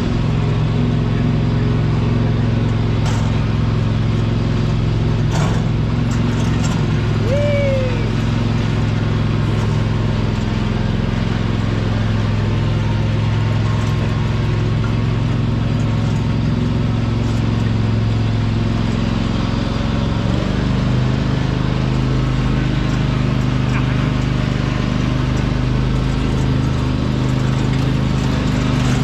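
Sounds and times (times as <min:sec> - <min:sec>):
riding lawn mower engine: 0:00.0 - 0:29.0.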